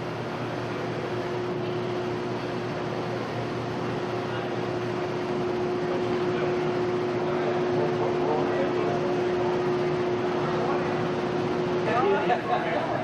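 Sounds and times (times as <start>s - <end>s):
mechanical droning hum: 0.0s - 13.0s.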